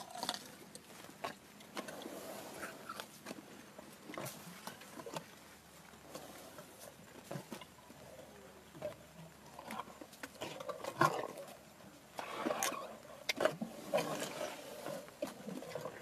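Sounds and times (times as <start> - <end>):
elephant chewing grass: 0.0 - 16.0.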